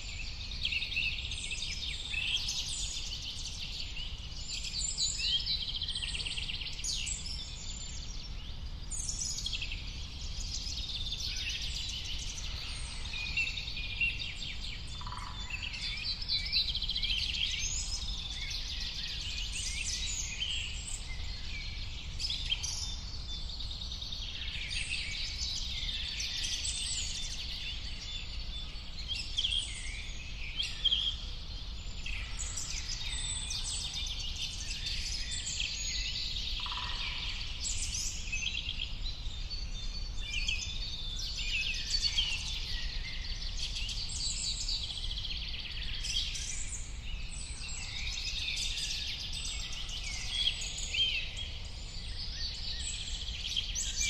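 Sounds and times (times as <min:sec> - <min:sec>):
birds chirping and singing: 0:00.2 - 0:54.0.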